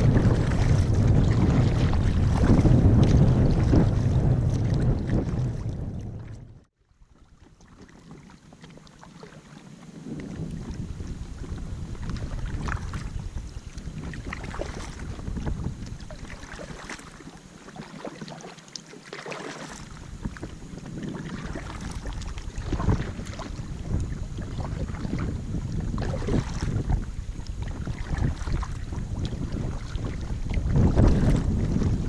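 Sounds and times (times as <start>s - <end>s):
wind buffeting microphone: 0.0s - 6.7s, 9.4s - 17.2s, 19.7s - 32.0s
water splashing against kayak: 0.0s - 32.0s.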